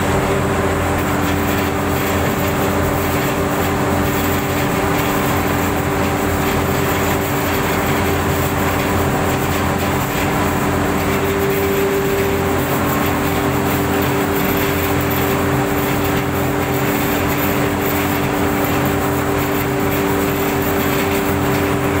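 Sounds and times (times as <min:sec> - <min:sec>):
grinding machine drone: 0:00.0 - 0:22.0.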